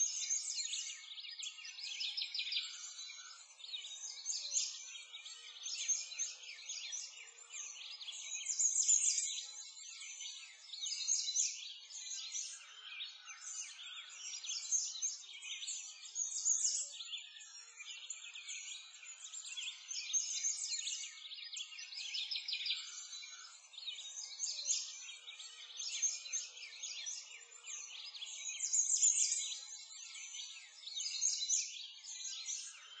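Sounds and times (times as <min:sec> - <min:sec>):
songbirds chirping and twittering: 0:00.0 - 0:33.0.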